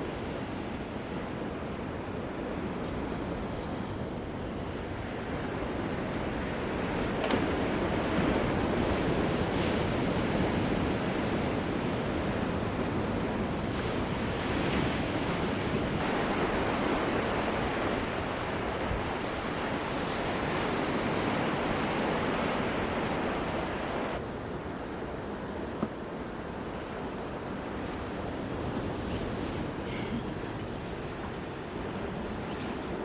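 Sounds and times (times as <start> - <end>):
sea waves washing on shore: 0.0 - 33.0.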